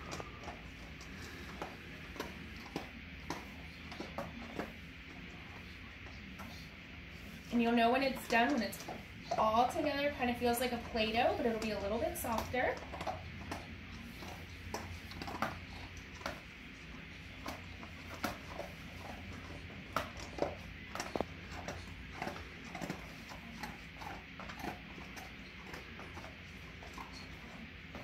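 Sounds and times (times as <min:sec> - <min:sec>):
soft dough squishes: 0:00.0 - 0:28.0.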